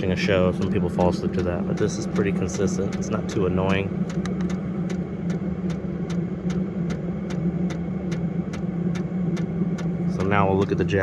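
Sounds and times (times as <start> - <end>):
heater fan humming: 0.0 - 11.0
fuel pump ticking: 0.5 - 10.8.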